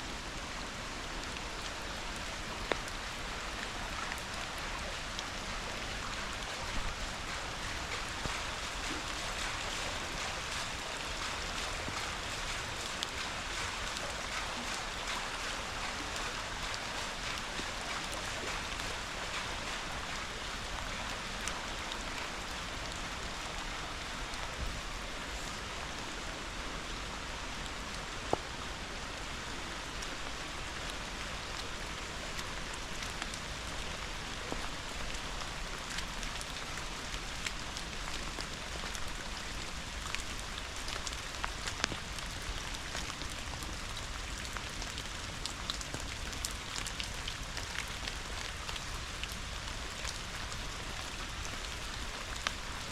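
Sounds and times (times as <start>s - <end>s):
rain falling: 0.0s - 52.9s
raindrops tapping close by: 0.8s - 26.5s, 27.3s - 52.9s.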